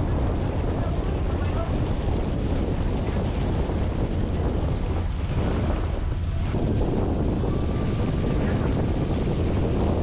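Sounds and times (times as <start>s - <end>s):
boat engine running: 0.0s - 10.0s
wind buffeting microphone: 0.0s - 10.0s.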